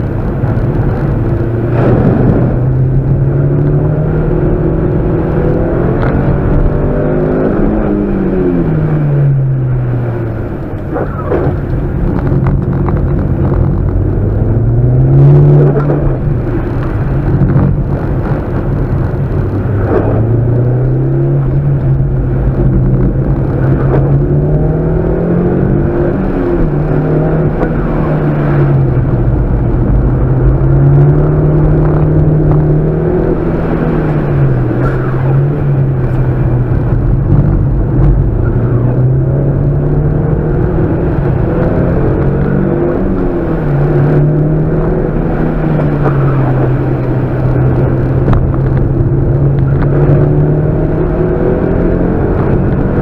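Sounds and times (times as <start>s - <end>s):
car engine revving while driving: 0.0s - 53.0s.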